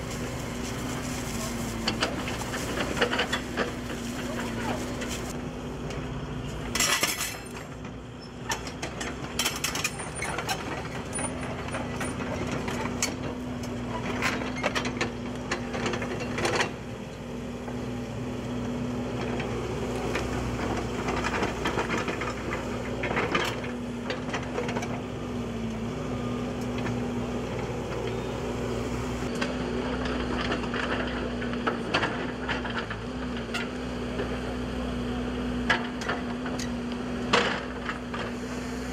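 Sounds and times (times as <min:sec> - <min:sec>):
steady engine hum: 0:00.0 - 0:38.9.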